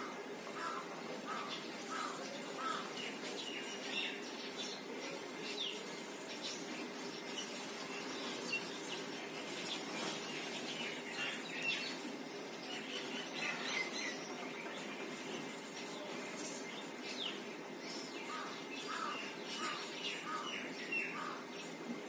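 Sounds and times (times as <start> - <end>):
small birds chirping: 0.0 - 21.9
steady background hum: 0.0 - 22.0.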